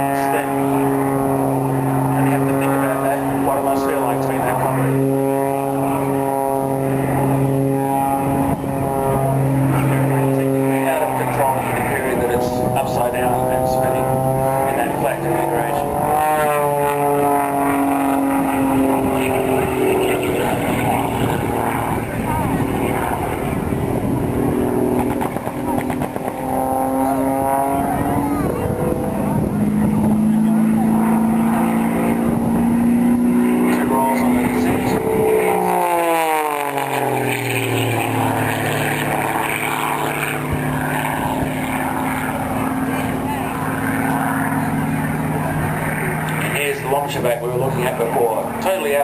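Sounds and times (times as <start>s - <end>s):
plane engine and propeller: 0.0s - 49.0s.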